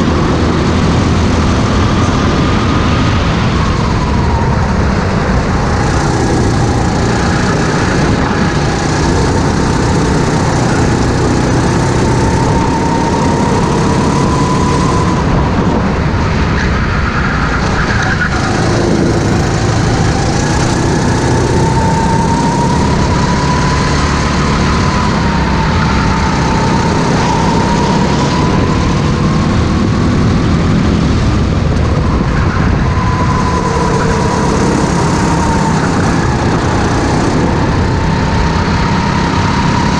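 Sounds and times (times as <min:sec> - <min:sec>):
go-kart engine at racing speed: 0:00.0 - 0:39.9.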